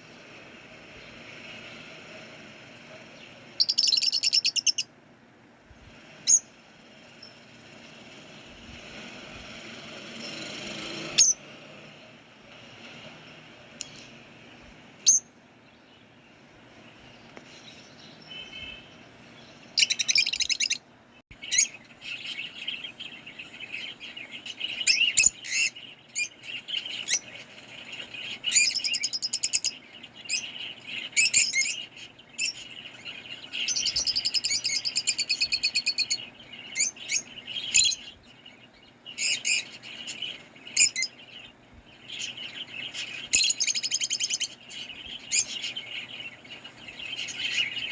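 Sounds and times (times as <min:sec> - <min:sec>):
lovebirds chirping: 0:00.0 - 0:05.0, 0:05.9 - 0:47.9.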